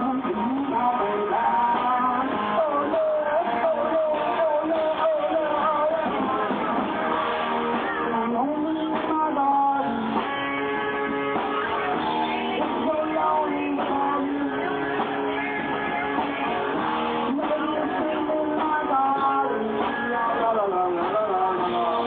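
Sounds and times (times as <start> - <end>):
muffled live band with guitar: 0.0 - 22.0.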